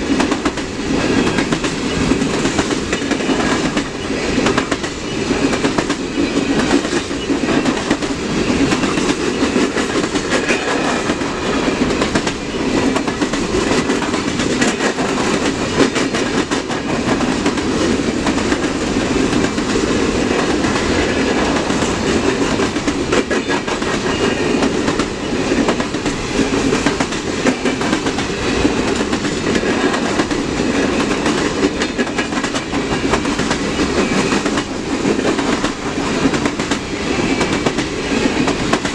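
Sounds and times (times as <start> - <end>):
train wheel noise: 0.0 - 38.9
wheels clicking over rail joints: 0.1 - 38.9.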